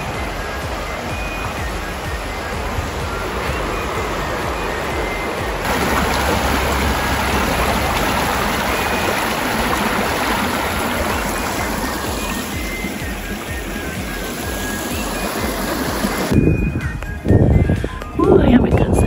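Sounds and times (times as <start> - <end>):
river water running over rocks: 0.0 - 16.3
soft background music: 0.0 - 19.0.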